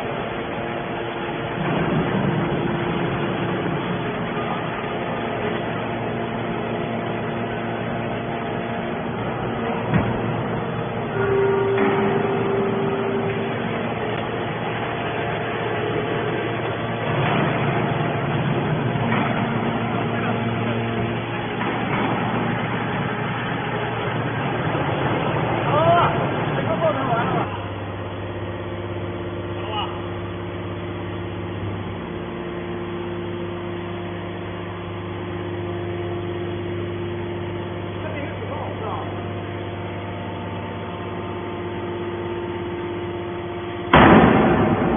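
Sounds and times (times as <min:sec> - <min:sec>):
machine running with low hum: 0:00.0 - 0:44.9.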